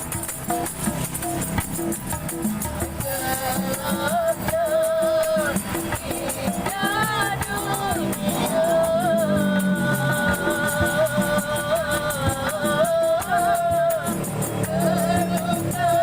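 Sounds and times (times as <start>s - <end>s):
shaker rattling a beat: 0.0s - 16.0s
person singing long wavering notes: 3.0s - 16.0s.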